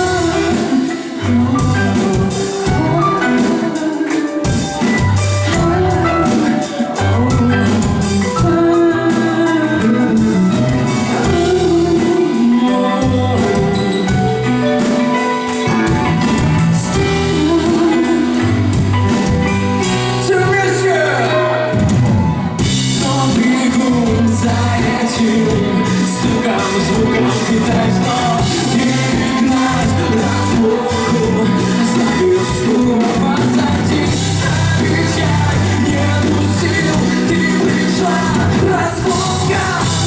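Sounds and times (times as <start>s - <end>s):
drum kit: 0.0s - 40.0s
electric guitar: 0.0s - 40.0s.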